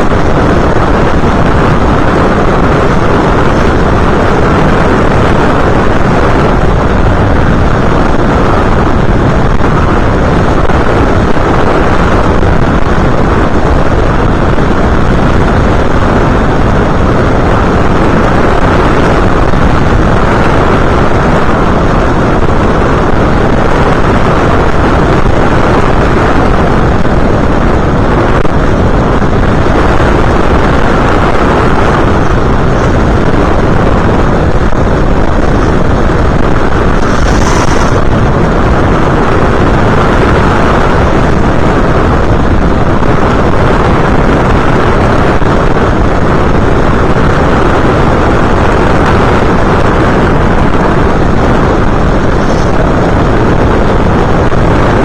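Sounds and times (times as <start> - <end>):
aircraft motor noise: 0.0 - 55.0
wind rushing: 0.0 - 55.0.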